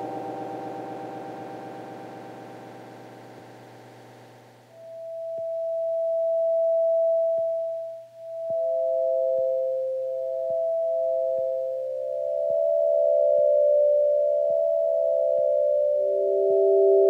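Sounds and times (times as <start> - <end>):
soft electronic tones: 0.0 - 17.0.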